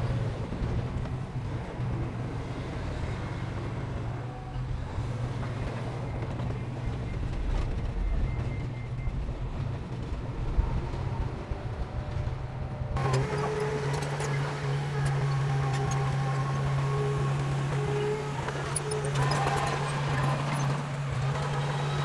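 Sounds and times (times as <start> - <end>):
diesel machinery engine hum: 0.0 - 22.0.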